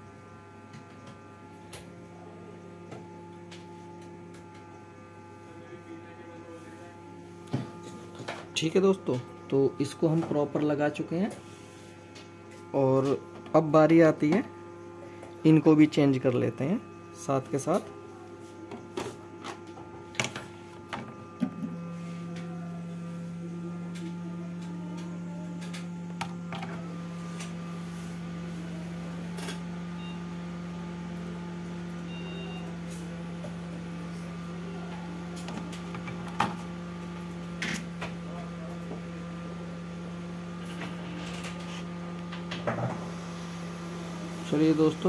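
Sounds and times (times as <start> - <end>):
hot air blower humming: 0.0 - 45.0.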